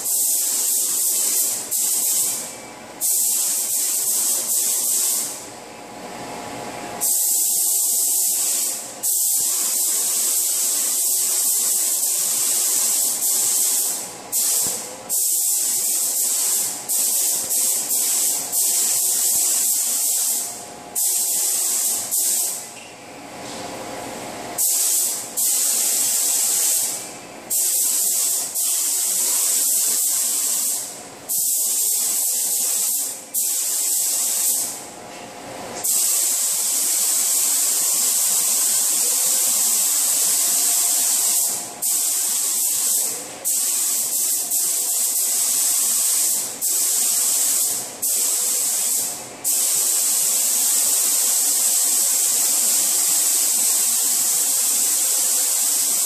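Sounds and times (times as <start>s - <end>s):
paint spray gun hissing: 0.0s - 2.4s, 3.0s - 5.4s, 7.0s - 22.6s, 24.6s - 34.7s, 35.8s - 56.0s.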